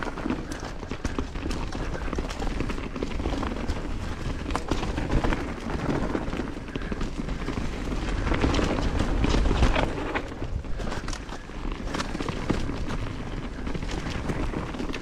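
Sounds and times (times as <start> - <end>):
bike chain and frame rattling: 0.0 - 15.0
bike tyres rolling on dirt: 0.0 - 15.0
wind rumbling on microphone: 0.0 - 15.0.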